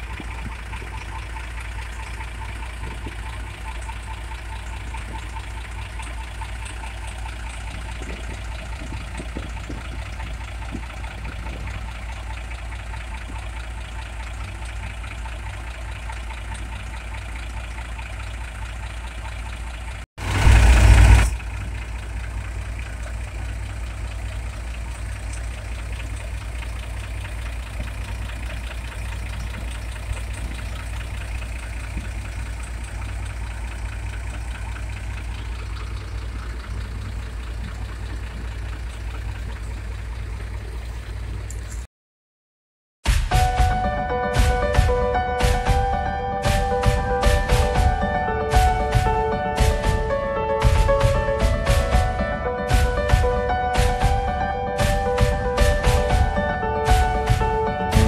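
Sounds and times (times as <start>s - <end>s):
loud rumble: 0.0s - 18.8s, 19.6s - 41.5s, 43.3s - 58.0s
tractor engine running: 0.0s - 41.9s, 43.1s - 58.0s.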